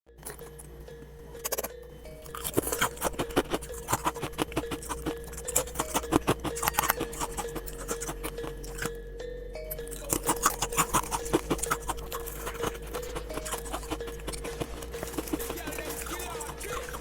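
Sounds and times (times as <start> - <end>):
steady low tone: 0.1 - 17.0
sticky clicks and squelches: 1.4 - 8.9, 9.9 - 17.0.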